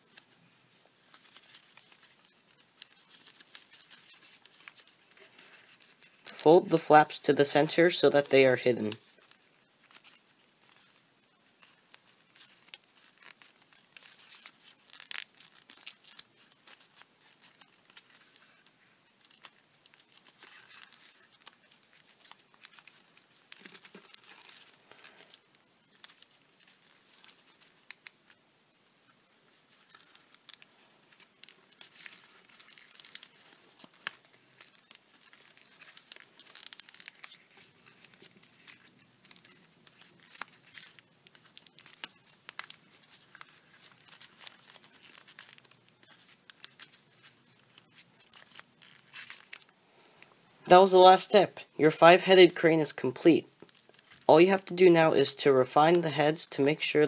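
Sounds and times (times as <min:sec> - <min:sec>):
paper crinkling and rustling: 0:00.0 - 0:28.4, 0:29.0 - 0:51.4, 0:52.0 - 0:57.0.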